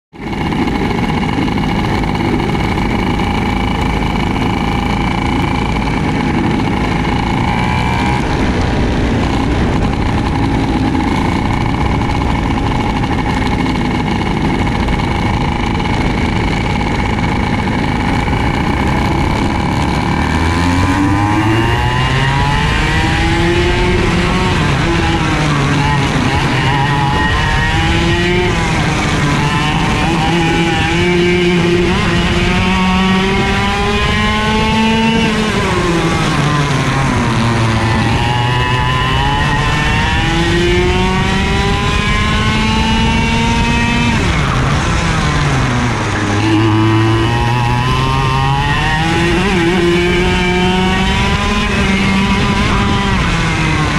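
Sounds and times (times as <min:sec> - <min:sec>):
kart engine revving: 0:00.1 - 0:53.9
other kart engines: 0:00.1 - 0:53.9.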